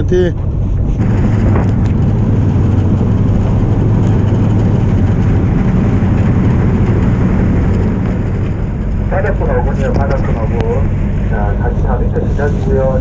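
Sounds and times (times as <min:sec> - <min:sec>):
boat engine humming: 0:00.0 - 0:13.0
wind: 0:00.0 - 0:13.0
wake rushing: 0:00.5 - 0:13.0.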